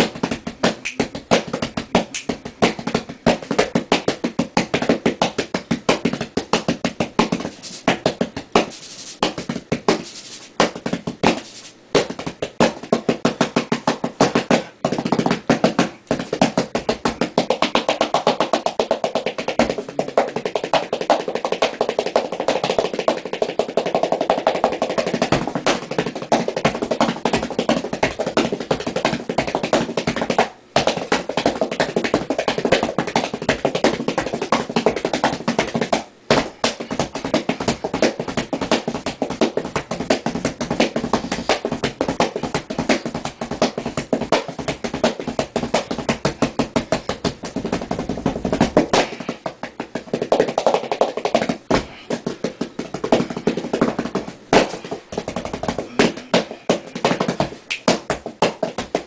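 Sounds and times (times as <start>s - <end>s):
hands drumming on cardboard box: 0.0s - 59.0s.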